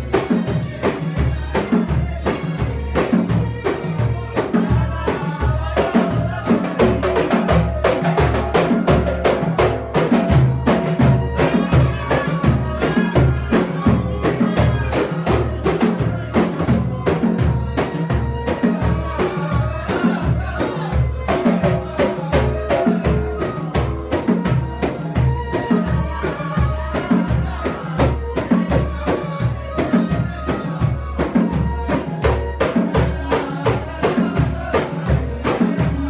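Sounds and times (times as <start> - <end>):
drums beating steady rhythm: 0.0 - 36.0.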